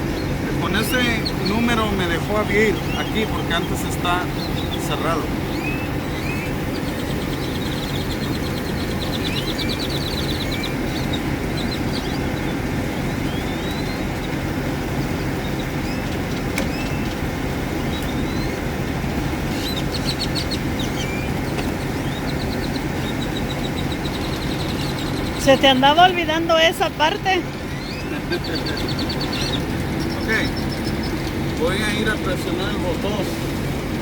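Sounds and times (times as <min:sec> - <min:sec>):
birds chirping: 0:00.0 - 0:34.0
diesel engine idling: 0:00.0 - 0:34.0
rapid bird trills: 0:00.0 - 0:34.0.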